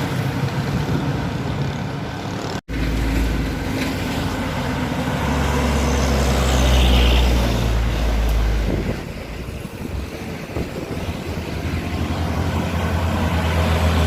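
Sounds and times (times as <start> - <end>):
heavy truck engine under load: 0.0 - 14.0.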